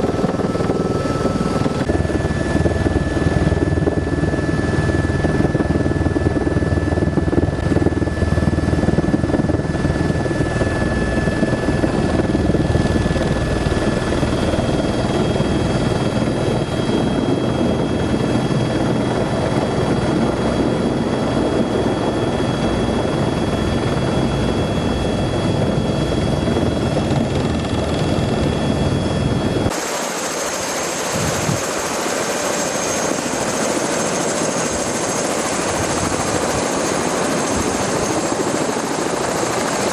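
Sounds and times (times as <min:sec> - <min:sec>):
helicopter rotor and engine drone: 0:00.0 - 0:39.9
helicopter turbine whine: 0:00.0 - 0:39.9.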